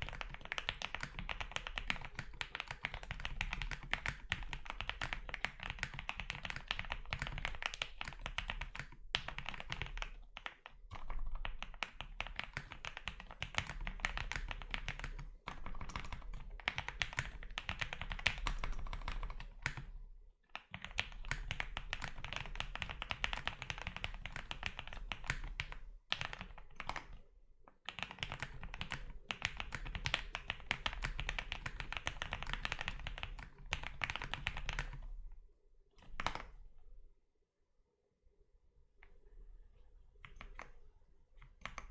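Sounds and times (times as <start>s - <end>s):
fast typing on mechanical keyboard: 0.0s - 19.9s, 20.6s - 27.2s, 27.9s - 35.1s, 36.0s - 36.6s.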